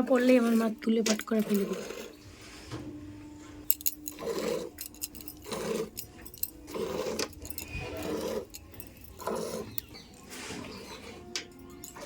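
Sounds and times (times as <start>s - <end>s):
small metallic clinks: 0.0s - 2.2s, 3.2s - 12.0s.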